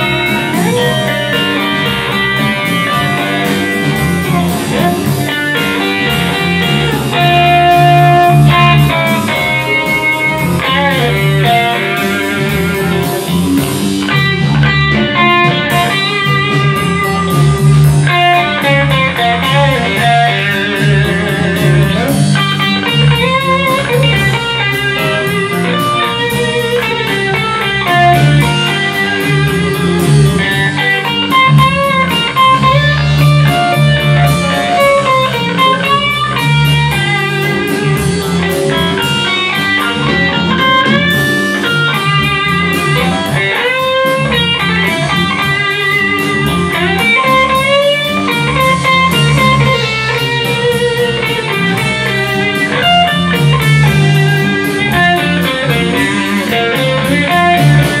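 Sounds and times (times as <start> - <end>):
blues band playing: 0.0 - 58.0
electric guitar with bent notes: 0.0 - 58.0.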